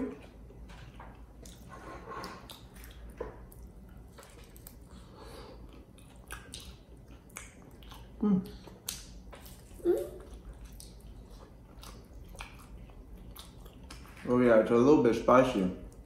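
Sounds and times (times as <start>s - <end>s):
wet chewing: 0.1s - 14.3s.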